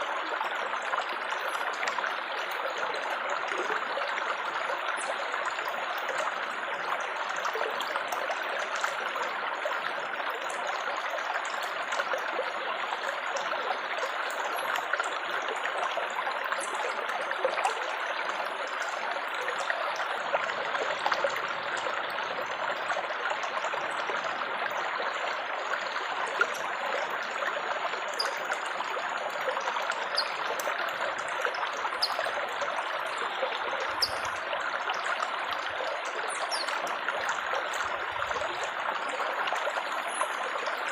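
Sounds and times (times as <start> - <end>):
water trickling and babbling: 0.0 - 40.9.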